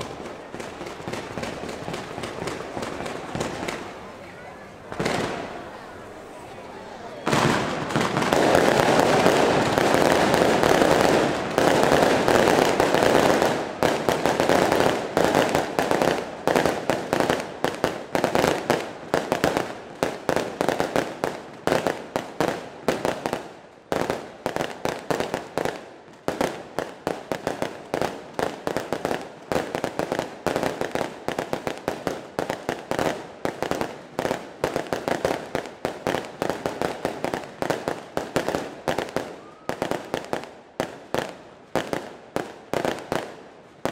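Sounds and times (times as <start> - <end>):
fireworks bangs and crackle: 0.0 - 43.9.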